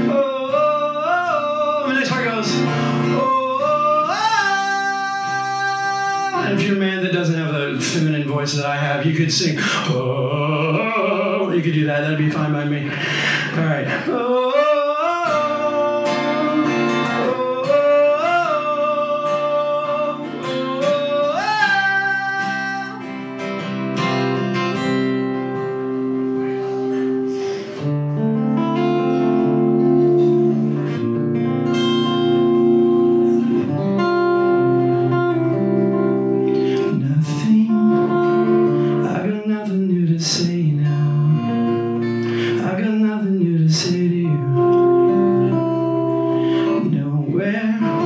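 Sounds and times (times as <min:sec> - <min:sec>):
acoustic guitar chords: 0:00.0 - 0:48.0
person singing: 0:00.0 - 0:48.0.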